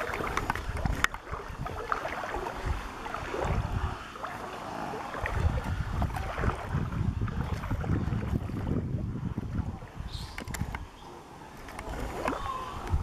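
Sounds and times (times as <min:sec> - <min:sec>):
wind buffeting microphone: 0:00.0 - 0:11.0, 0:11.8 - 0:13.0
water moving: 0:00.0 - 0:13.0.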